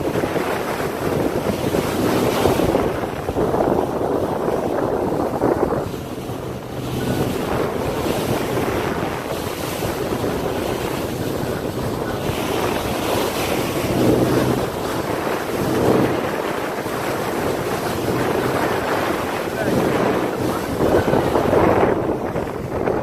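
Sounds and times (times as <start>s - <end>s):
rushing water from yacht: 0.0s - 23.0s
wind buffeting microphone: 0.0s - 23.0s.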